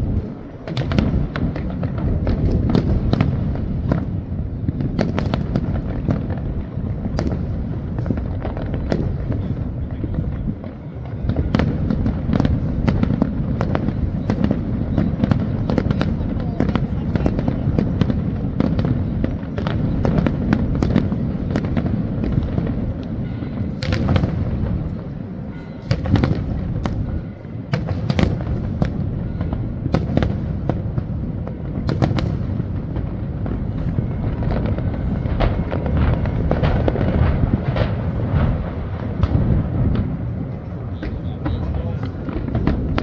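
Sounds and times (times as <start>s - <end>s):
fireworks bangs and cracks: 0.0s - 43.0s.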